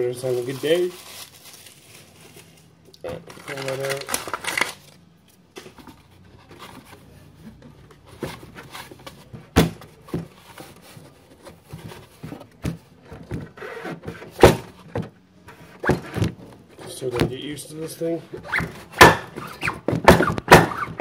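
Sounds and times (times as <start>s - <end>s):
plastic rubbing and scraping: 0.0s - 5.0s, 5.6s - 21.0s.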